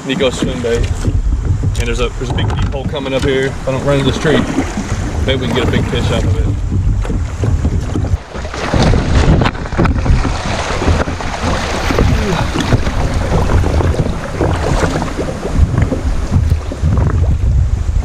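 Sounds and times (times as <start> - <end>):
river water splashing and gurgling: 0.0 - 18.0
wind buffeting microphone: 0.0 - 18.0.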